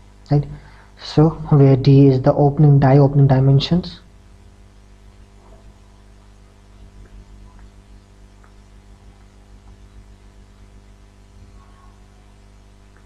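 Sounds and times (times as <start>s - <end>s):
low hiss: 0.0s - 13.0s
mains hum: 0.0s - 13.0s.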